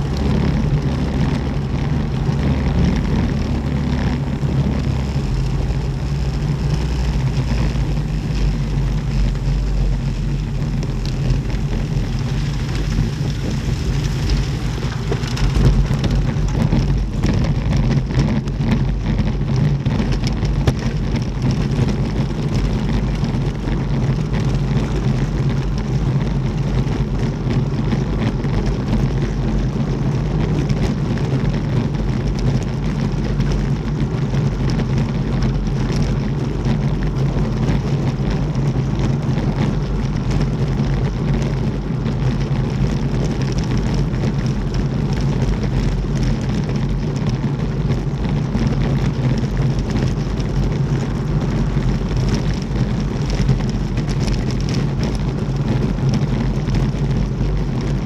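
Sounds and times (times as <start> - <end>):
tyres rolling on gravel: 0.0 - 58.0
wind rush on microphone: 0.0 - 58.0.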